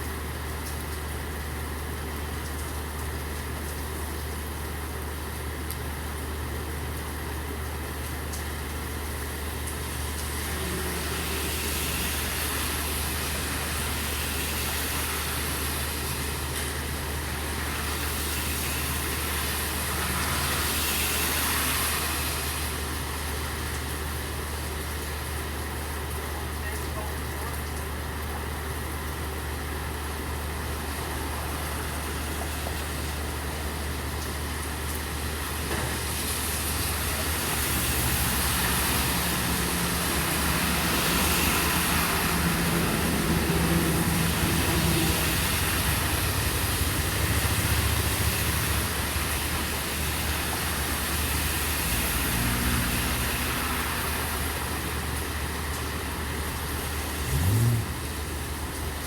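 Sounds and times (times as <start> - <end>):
steady rain hiss: 0.1 - 59.0
vehicle driving through water: 6.1 - 59.0.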